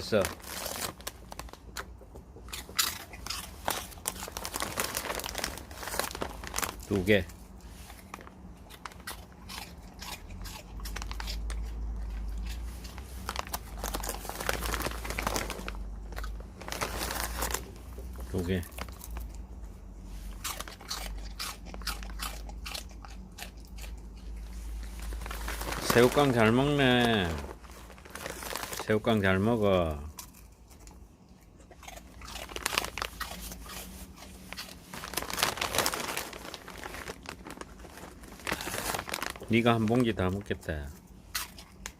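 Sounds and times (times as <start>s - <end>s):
dog crunching crackers: 0.0s - 19.5s, 20.1s - 41.9s.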